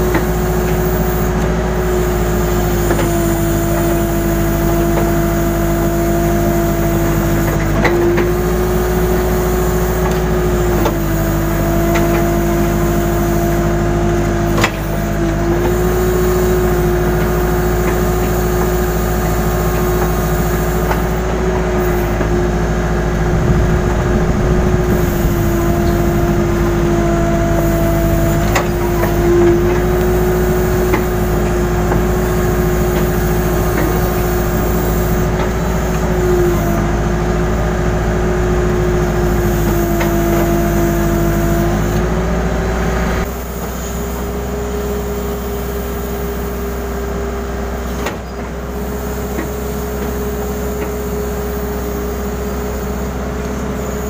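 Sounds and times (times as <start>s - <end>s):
backhoe arm and bucket clunks: 0.0s - 54.0s
diesel engine running: 0.0s - 54.0s.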